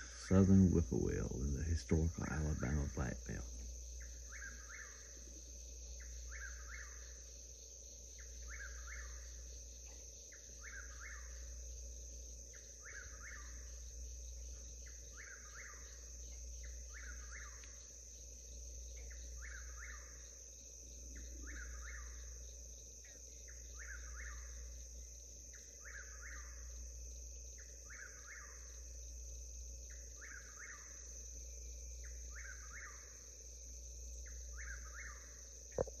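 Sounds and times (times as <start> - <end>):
crickets droning: 0.0 - 36.0.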